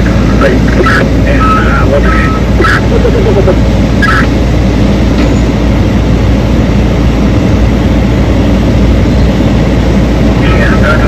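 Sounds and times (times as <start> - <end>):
diesel machinery droning: 0.0 - 11.0.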